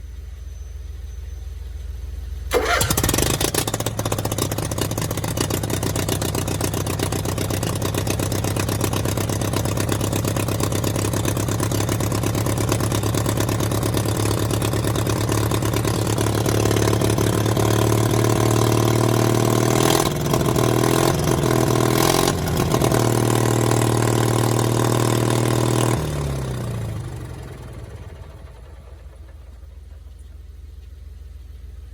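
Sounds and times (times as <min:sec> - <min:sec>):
generator engine running loud: 0:02.5 - 0:30.3.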